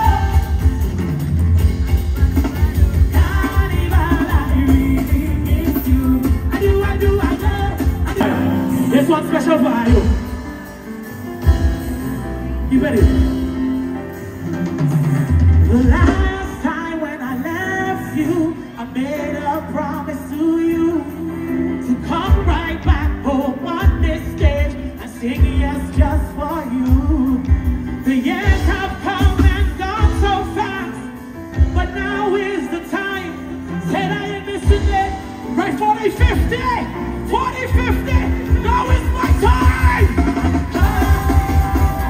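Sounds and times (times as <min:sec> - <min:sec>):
person singing: 0:00.0 - 0:10.3, 0:15.5 - 0:42.0.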